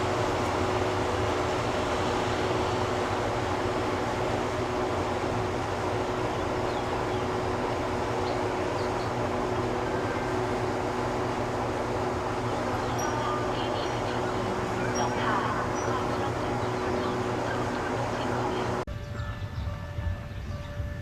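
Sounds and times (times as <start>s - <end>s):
train mechanical hum: 0.0s - 21.0s.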